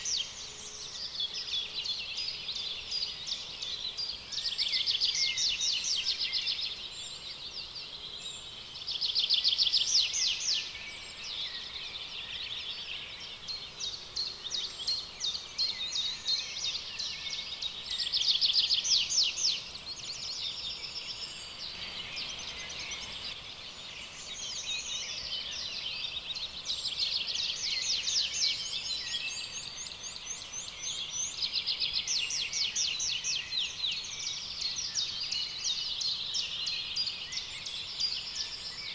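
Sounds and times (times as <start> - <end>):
chorus of birdsong: 0.0 - 38.9.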